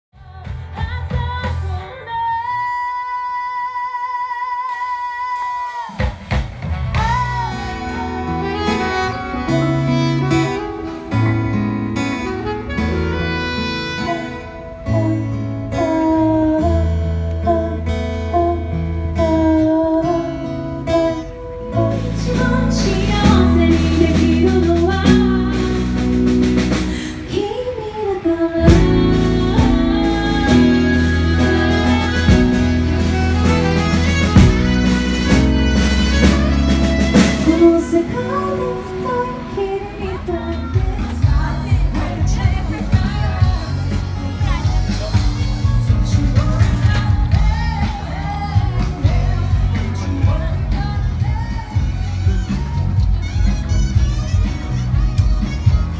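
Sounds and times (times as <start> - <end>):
band playing with singing: 0.2 - 55.9.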